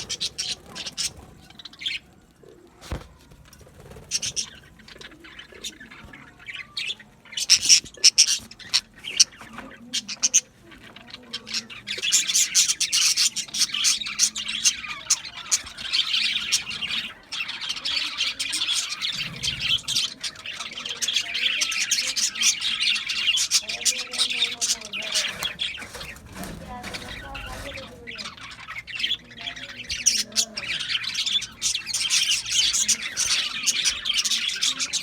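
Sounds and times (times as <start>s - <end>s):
budgerigars chirping and squawking: 0.0s - 2.3s, 3.8s - 35.0s.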